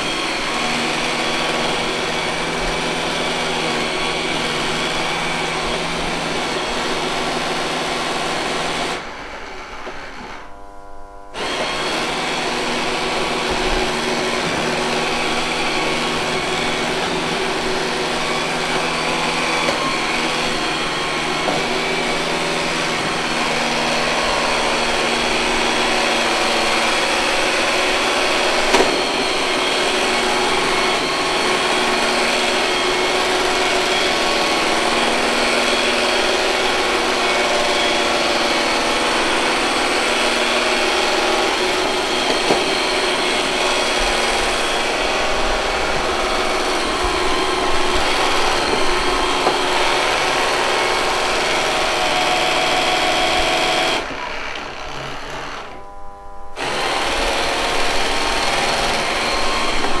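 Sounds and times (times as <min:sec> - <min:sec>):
robot vacuum cleaner whirring: 0:00.0 - 1:00.0.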